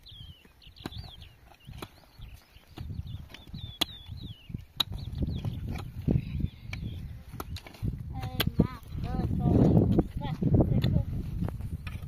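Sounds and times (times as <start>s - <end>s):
birds chirping: 0.0s - 11.1s.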